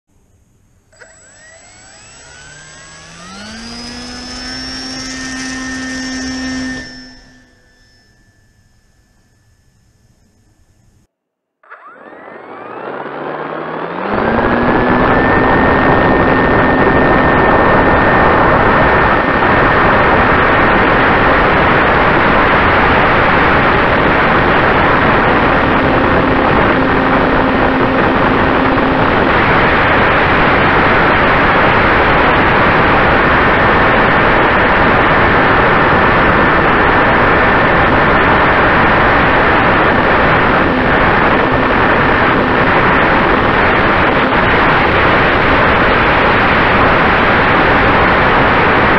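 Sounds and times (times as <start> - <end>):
electric motor whine: 0.2 - 48.9
propeller wash and airflow rushing: 0.9 - 8.0, 11.7 - 48.9.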